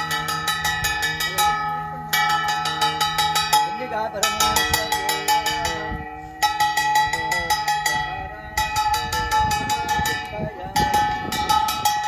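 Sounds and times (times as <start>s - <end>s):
hand bell rung rapidly: 0.0s - 12.0s.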